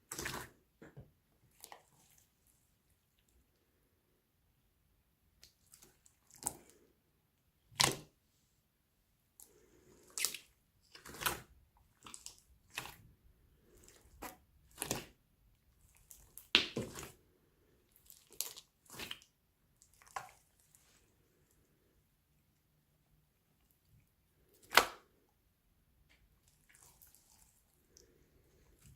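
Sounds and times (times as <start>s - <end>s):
slime squelching: 0.0s - 3.6s, 5.3s - 7.0s, 7.6s - 8.2s, 9.3s - 25.3s, 26.0s - 28.9s.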